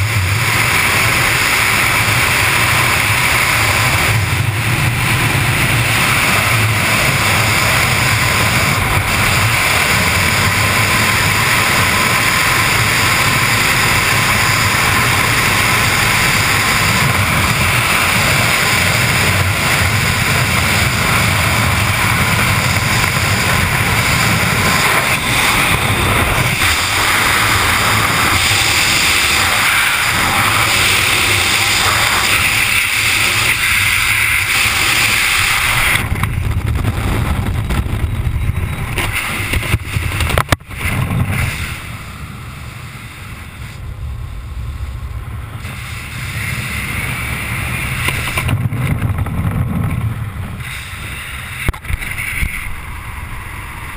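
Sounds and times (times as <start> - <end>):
freefall wind buffeting microphone: 0.0 - 53.9.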